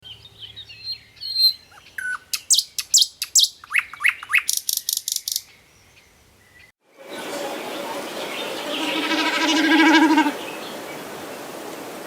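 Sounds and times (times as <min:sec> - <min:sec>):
songbird singing: 0:00.0 - 0:11.6.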